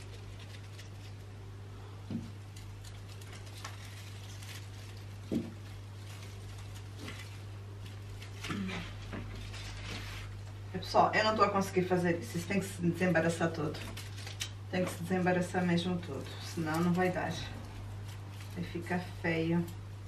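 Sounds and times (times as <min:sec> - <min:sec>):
twig garland rustling: 0:00.0 - 0:10.6, 0:11.4 - 0:20.0
steady low hum: 0:00.0 - 0:20.0.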